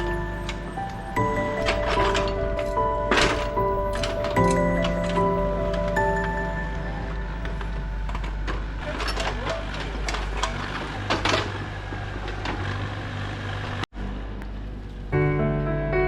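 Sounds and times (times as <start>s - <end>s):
engine humming: 0.0s - 15.6s.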